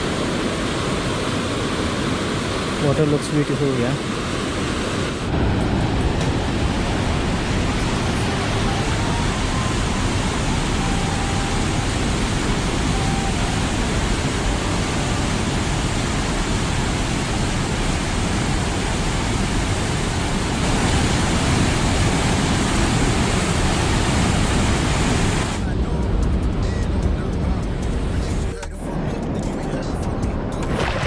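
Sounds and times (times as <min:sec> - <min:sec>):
waterfall rushing: 0:00.0 - 0:25.7.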